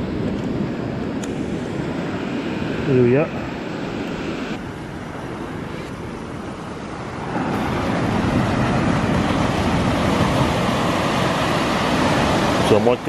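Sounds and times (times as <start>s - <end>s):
surf at the shore: 0.0s - 13.0s
wind: 0.0s - 13.0s.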